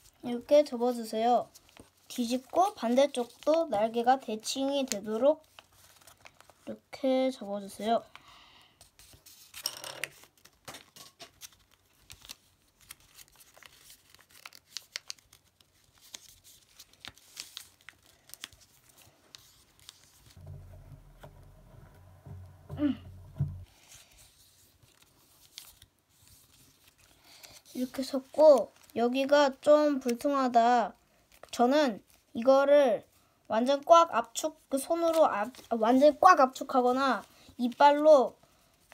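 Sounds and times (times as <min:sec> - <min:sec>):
paper rustling and crinkling: 0:00.0 - 0:08.2, 0:08.8 - 0:21.5, 0:23.4 - 0:30.6, 0:31.2 - 0:32.4, 0:33.7 - 0:38.9.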